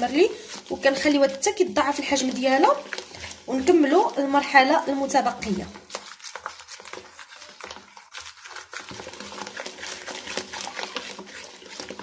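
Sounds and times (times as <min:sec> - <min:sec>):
whisk stirring batter in bowl: 0:00.0 - 0:12.0.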